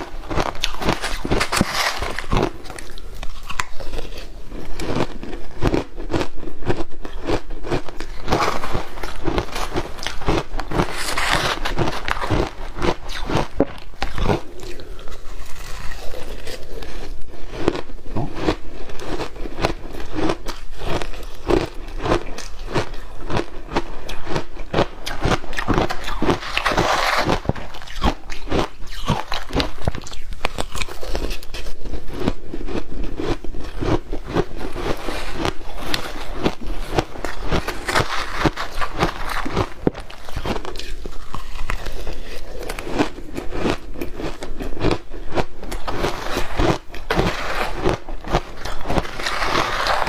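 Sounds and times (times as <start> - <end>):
ice crunching while chewed: 0.0 - 50.0.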